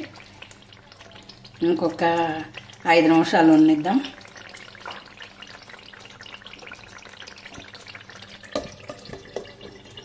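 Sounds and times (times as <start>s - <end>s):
curry sizzling in a pan: 0.0s - 10.0s.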